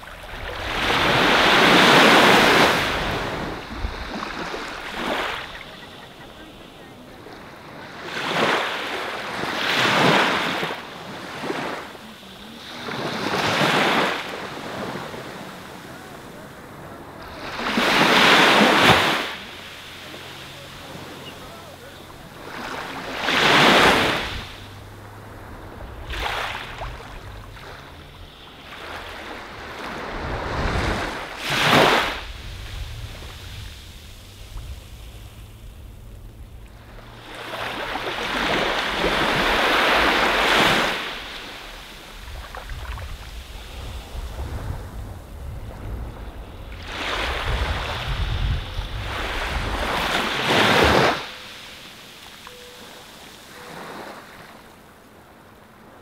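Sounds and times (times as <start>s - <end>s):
ocean surf washing on beach: 0.0s - 56.0s.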